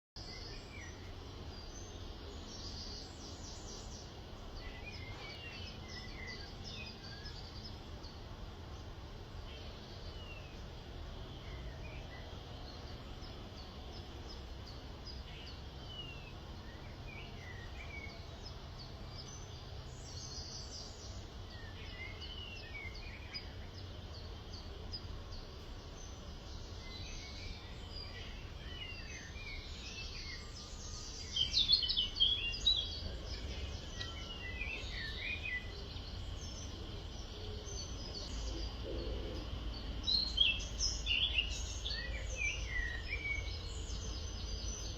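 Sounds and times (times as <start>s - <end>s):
birds chirping and calling: 0.2s - 44.9s.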